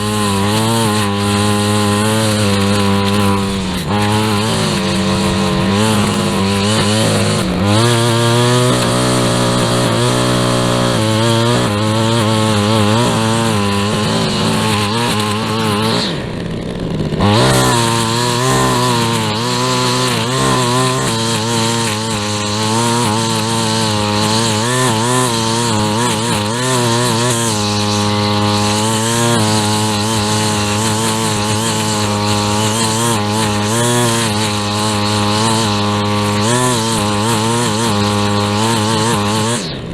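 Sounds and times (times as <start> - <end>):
string trimmer running: 0.0 - 39.9.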